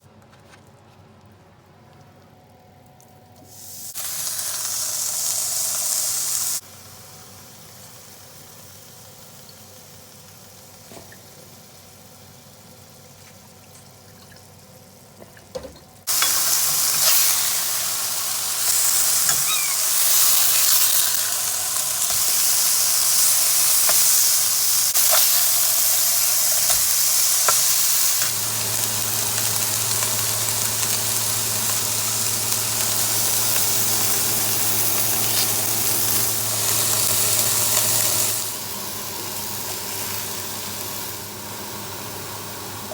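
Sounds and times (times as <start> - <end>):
burger patties sizzling: 3.5 - 14.1, 16.0 - 42.9.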